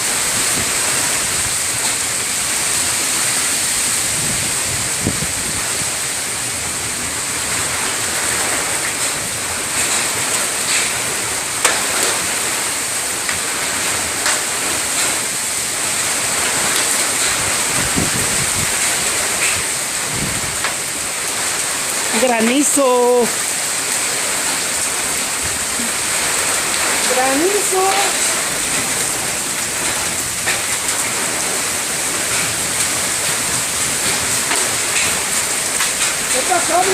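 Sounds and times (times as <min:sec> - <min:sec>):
hailstones ticking: 0:00.0 - 0:36.9
heavy rain pouring: 0:00.0 - 0:36.9.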